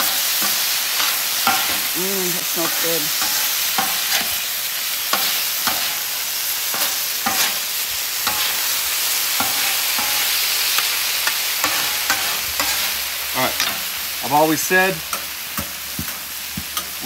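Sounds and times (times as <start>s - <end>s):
shrimp sizzling on a griddle: 0.0s - 17.0s.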